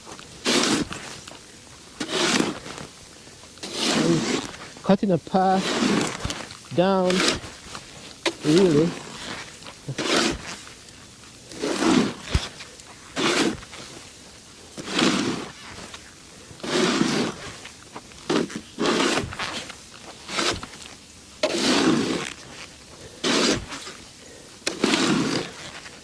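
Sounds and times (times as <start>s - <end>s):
snow shovel scraping snow: 0.0s - 26.0s.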